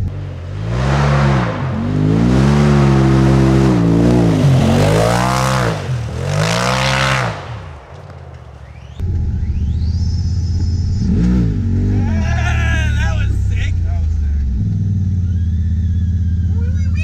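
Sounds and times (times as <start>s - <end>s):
engine revving hard: 0.0s - 7.6s, 11.0s - 17.0s.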